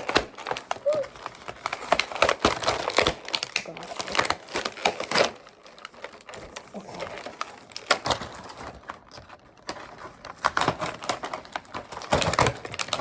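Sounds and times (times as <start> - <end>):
packaging clicks and snaps: 0.0 - 13.0.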